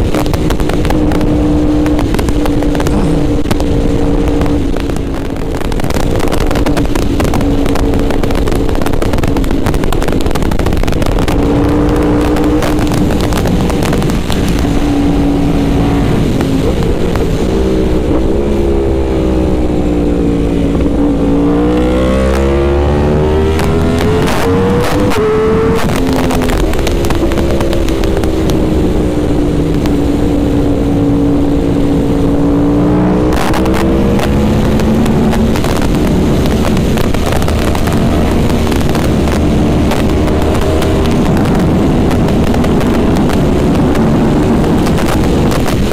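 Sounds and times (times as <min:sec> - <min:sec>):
motorcycle engine running: 0:00.0 - 0:45.9
wind rumble on microphone: 0:00.0 - 0:45.9.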